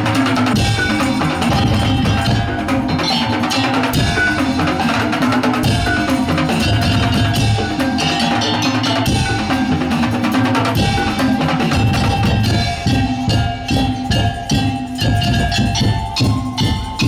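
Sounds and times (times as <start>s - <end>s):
held melodic tones: 0.0s - 17.0s
wooden slit drums beating: 0.0s - 17.0s.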